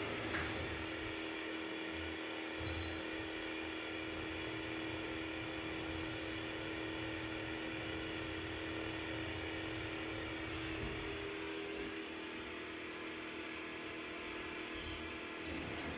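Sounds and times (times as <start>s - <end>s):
lift mechanical hum: 0.0s - 15.9s.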